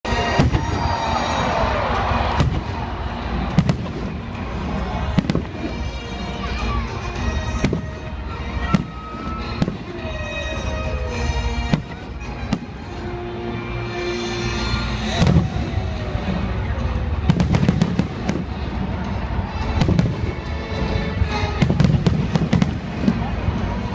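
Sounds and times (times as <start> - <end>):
music: 0.0 - 23.9
fireworks bangs: 0.1 - 10.6, 15.0 - 23.9.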